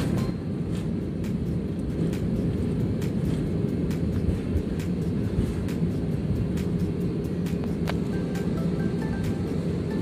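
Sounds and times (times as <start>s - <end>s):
jet engines: 0.0s - 10.0s
wheels rumbling on runway: 0.0s - 10.0s.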